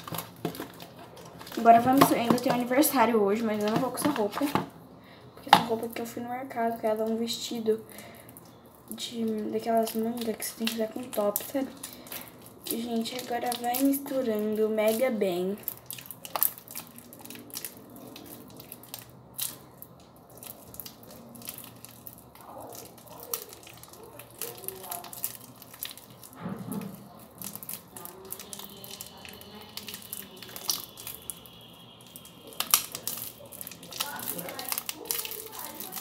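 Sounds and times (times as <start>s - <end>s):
hands squeezing wet slime: 0.0s - 4.6s, 7.9s - 36.0s.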